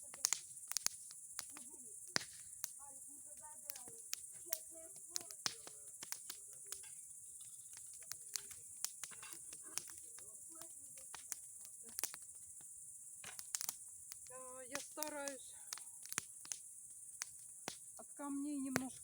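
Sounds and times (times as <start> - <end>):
bonfire crackling and popping: 0.0 - 19.0
insects chirring: 0.0 - 19.0.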